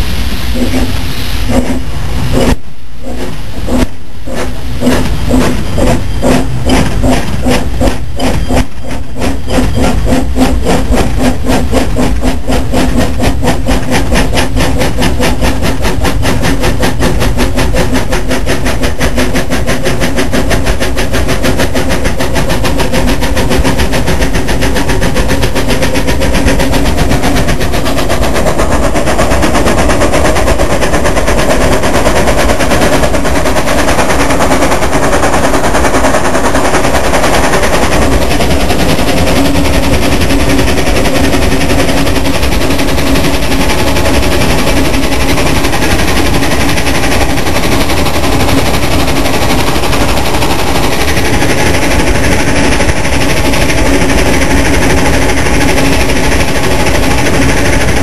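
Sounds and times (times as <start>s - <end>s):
steam locomotive exhaust chuffs: 0.0s - 58.0s.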